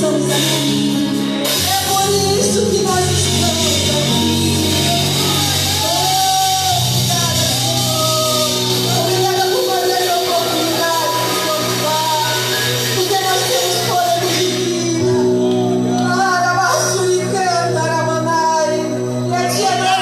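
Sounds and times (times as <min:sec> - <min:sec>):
held bass notes: 0:00.0 - 0:16.1
band playing: 0:00.0 - 0:18.1
person singing: 0:00.0 - 0:20.0.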